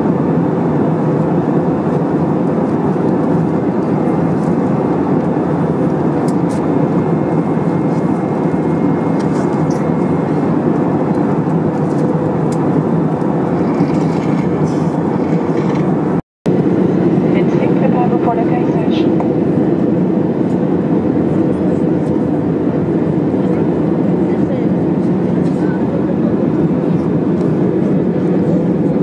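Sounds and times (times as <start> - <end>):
airplane cabin noise: 0.0 - 29.0.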